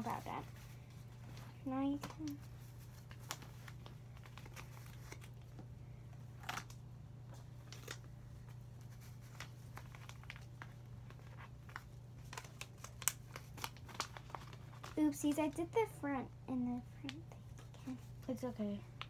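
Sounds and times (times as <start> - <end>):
paper crinkling and rustling: 0.0 - 15.6
steady low hum: 0.0 - 19.0.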